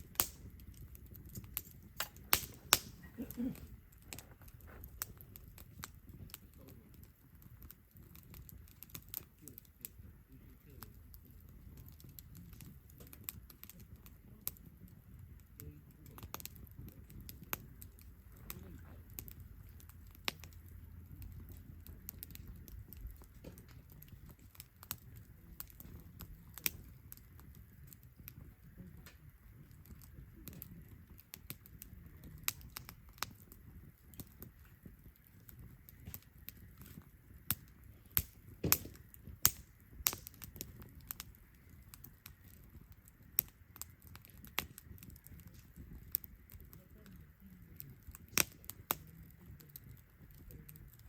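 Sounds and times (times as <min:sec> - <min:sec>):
campfire crackling and popping: 0:00.0 - 0:51.0
low rush of flame: 0:00.0 - 0:51.0.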